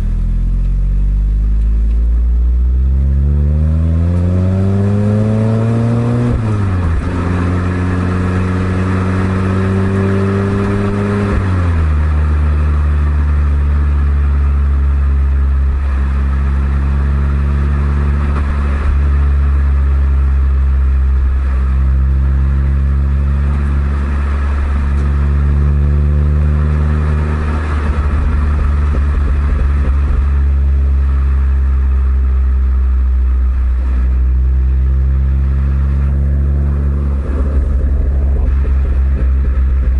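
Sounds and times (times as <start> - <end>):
car exhaust revving and cruising: 0.0 - 39.9.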